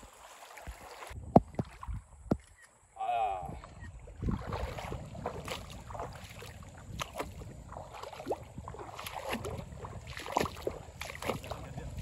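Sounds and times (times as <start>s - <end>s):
water lapping against boat: 0.0s - 2.1s, 3.3s - 12.0s.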